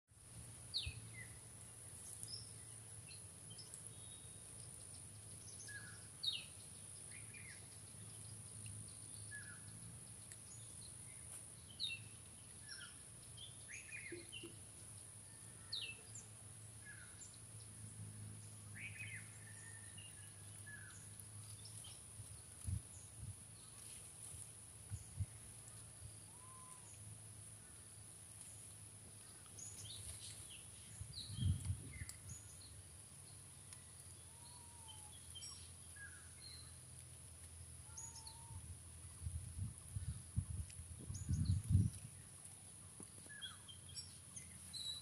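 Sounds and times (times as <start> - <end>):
faint birdsong: 0.6 - 45.0.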